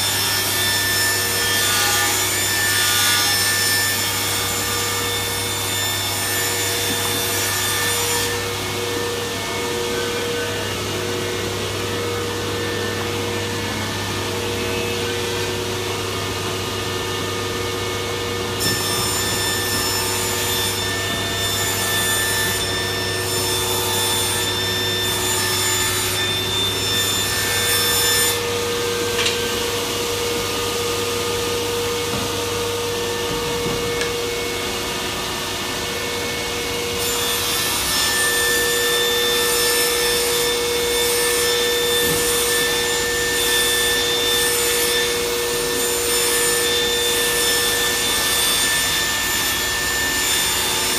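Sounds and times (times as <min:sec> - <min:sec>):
workshop machinery droning: 0:00.0 - 0:50.9.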